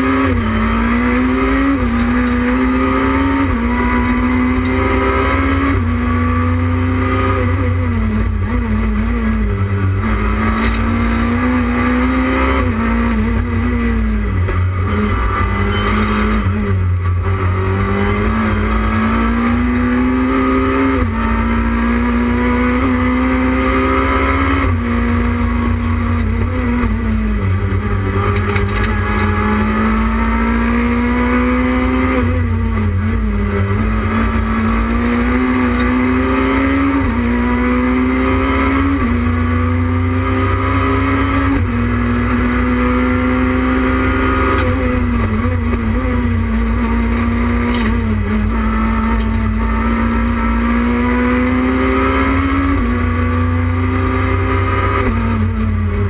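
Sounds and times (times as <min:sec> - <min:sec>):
rally car engine running hard: 0:00.0 - 0:56.0.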